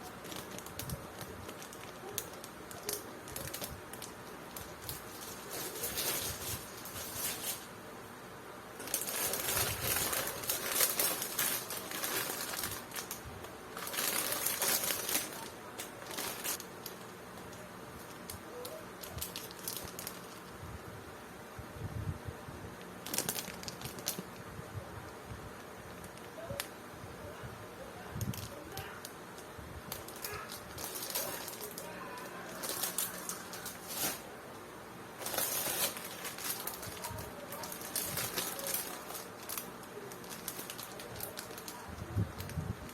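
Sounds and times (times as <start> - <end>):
plastic packaging rustling: 0.0 - 7.8, 8.7 - 20.6, 22.9 - 24.4, 28.2 - 42.9.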